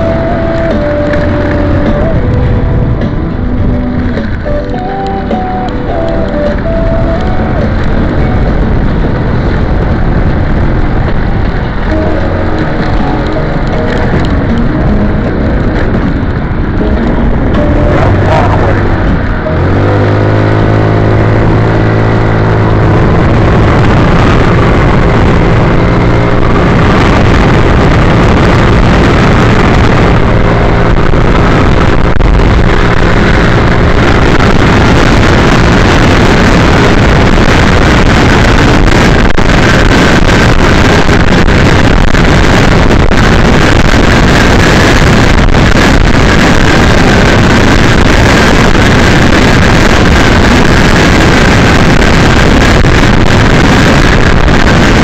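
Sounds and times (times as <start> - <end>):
engine hum: 0.0 - 55.0
wind and road noise: 0.0 - 55.0.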